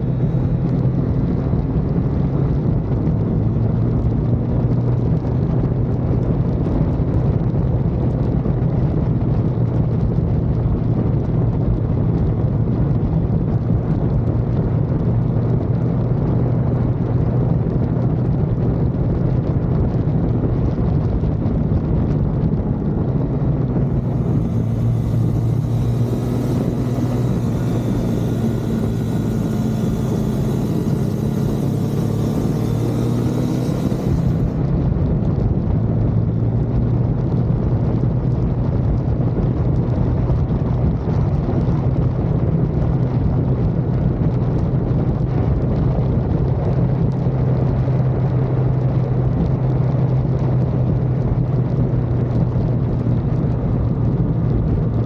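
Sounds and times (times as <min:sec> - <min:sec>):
car engine running: 0:00.0 - 0:55.0
wind noise: 0:00.0 - 0:55.0.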